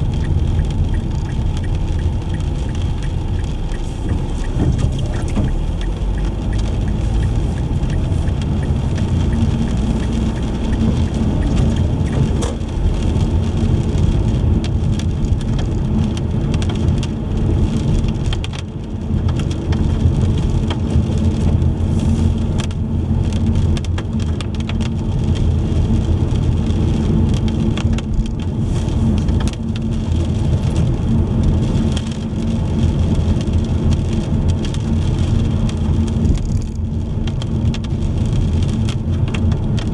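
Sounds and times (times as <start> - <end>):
car driving on wet road: 0.0 - 39.9
raindrops tapping: 0.0 - 39.9.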